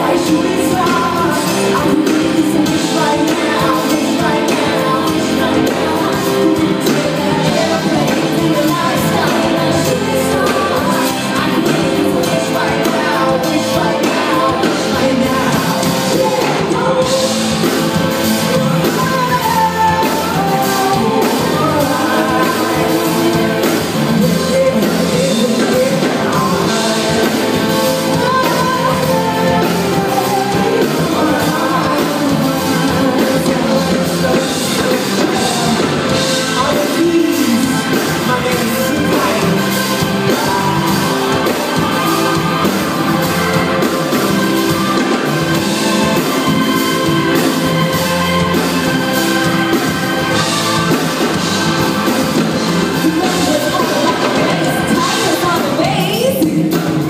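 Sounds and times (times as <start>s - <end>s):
person singing through pa: 0.0s - 51.4s
drum kit: 0.0s - 57.0s
electric bass: 0.0s - 57.0s
keyboard: 0.0s - 57.0s.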